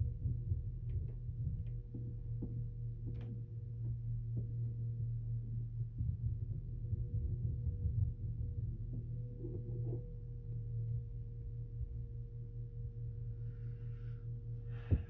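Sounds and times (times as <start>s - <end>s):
muffled vacuum cleaner drone: 0.0s - 15.0s.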